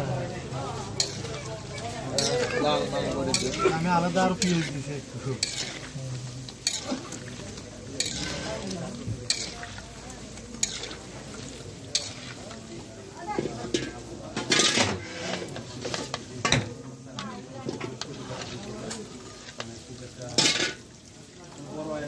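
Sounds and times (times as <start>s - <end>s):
fritters sizzling in hot oil: 0.0s - 22.0s
metal spatula scraping a wok: 0.7s - 16.6s, 17.6s - 20.9s.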